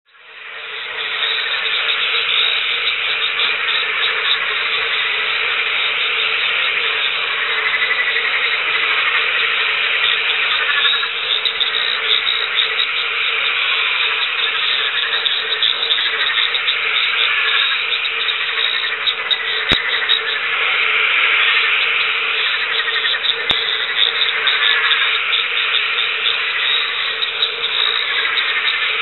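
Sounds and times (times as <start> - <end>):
frog chorus: 0.1 - 29.0.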